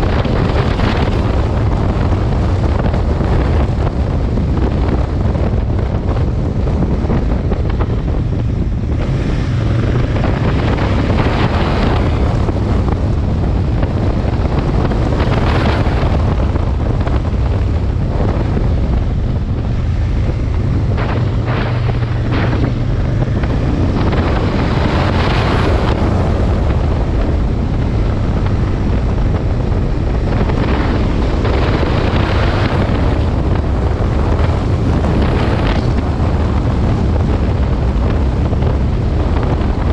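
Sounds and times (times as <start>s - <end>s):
motorcycle engine droning: 0.0s - 39.9s
wind buffeting microphone: 0.0s - 39.9s.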